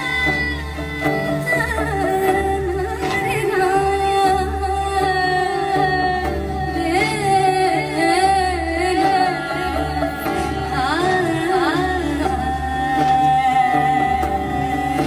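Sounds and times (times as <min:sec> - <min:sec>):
band playing: 0:00.0 - 0:15.0
woman singing: 0:00.0 - 0:15.0.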